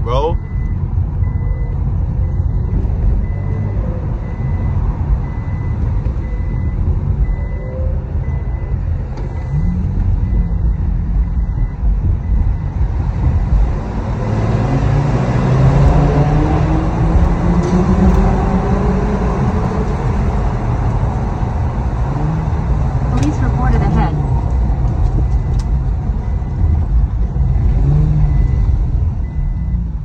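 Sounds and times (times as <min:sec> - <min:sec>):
road noise: 0:00.0 - 0:30.0
car engine revving: 0:00.4 - 0:29.8.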